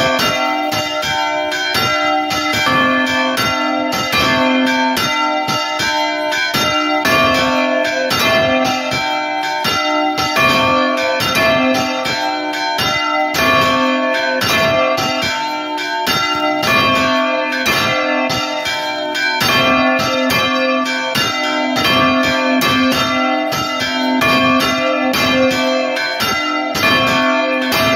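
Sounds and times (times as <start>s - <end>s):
church bell ringing rapidly: 0.0s - 27.9s.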